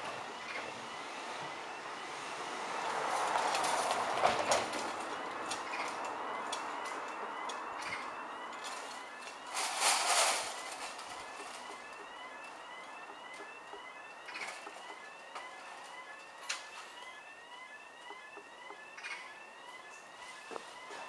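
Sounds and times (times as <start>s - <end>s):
electronic crossing alarm chirps: 0.0s - 21.0s.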